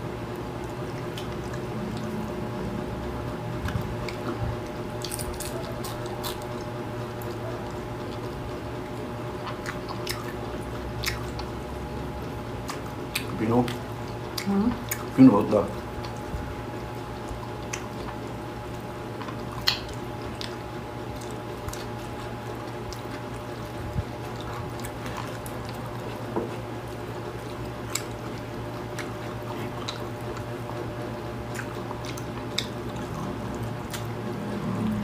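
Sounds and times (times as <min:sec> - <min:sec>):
people chewing food: 0:00.0 - 0:35.0
steady low hum: 0:00.0 - 0:35.0.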